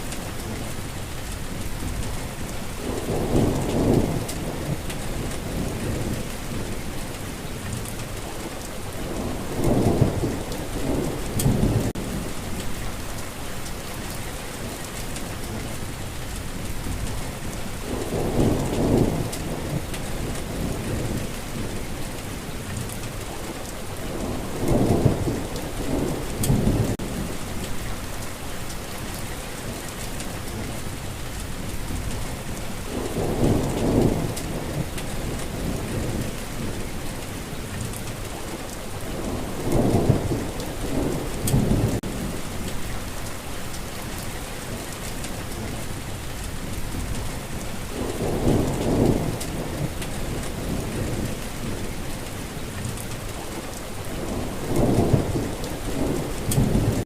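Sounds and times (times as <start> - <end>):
steady rainfall: 0.0 - 57.0
thunder rumbling: 1.6 - 7.8, 8.9 - 13.2, 16.7 - 23.2, 24.0 - 29.2, 30.0 - 57.0.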